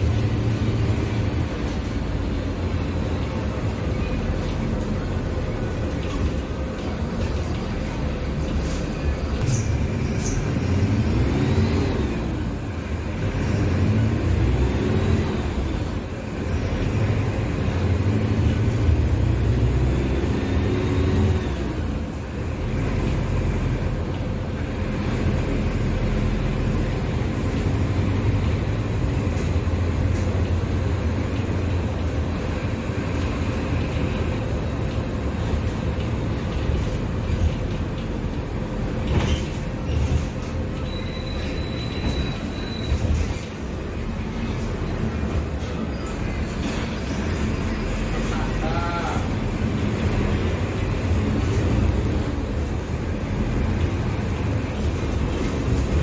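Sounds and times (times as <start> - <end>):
bus diesel engine: 0.0 - 56.0.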